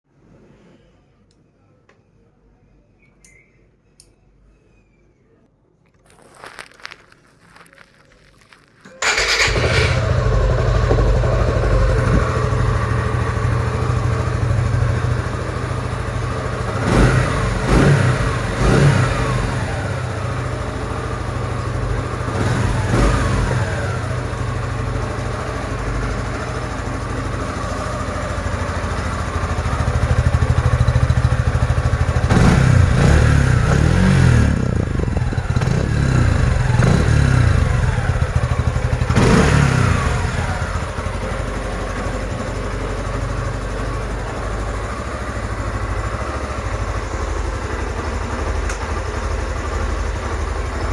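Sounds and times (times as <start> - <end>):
motorcycle engine idling and revving: 9.0 - 50.9.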